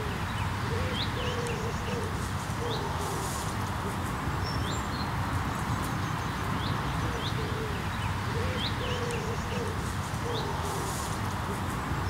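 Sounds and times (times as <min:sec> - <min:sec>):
steady hiss: 0:00.0 - 0:07.1, 0:07.8 - 0:12.0
small birds chirping: 0:00.0 - 0:12.0.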